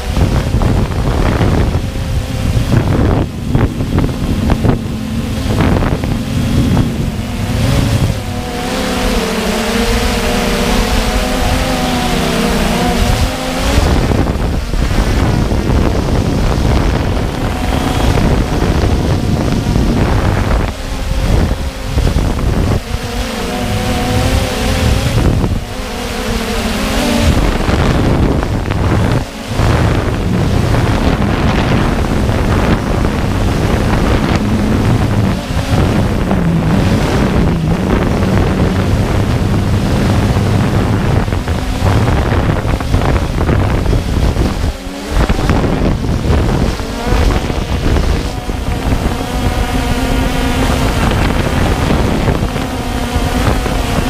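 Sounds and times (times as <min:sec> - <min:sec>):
drone motors buzzing: 0:00.0 - 0:54.0
wind rush on microphone: 0:00.0 - 0:54.0.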